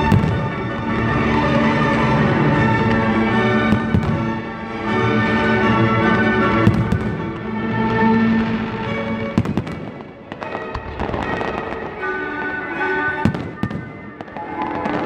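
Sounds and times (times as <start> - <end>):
fireworks bangs and crackle: 0.0 - 15.0
music playing: 0.0 - 15.0.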